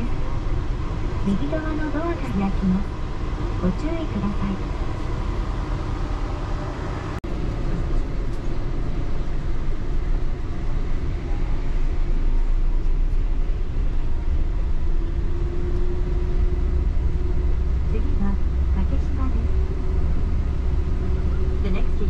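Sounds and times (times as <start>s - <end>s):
train cabin low rumble: 0.0s - 22.0s.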